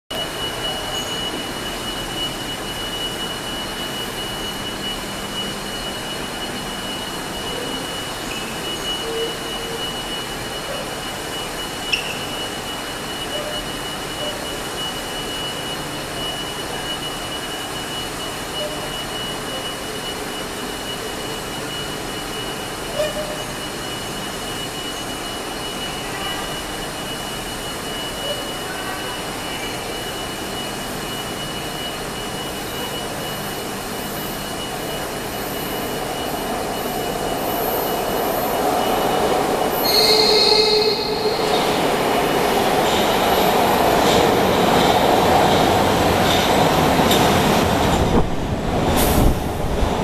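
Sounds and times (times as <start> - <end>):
constant high-pitched tone: 0.1 - 48.6.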